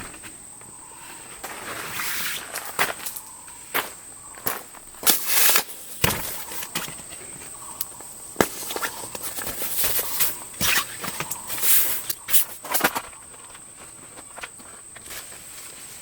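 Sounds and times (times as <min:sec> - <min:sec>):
rustles and knocks of shelter setup: 0:00.0 - 0:16.0.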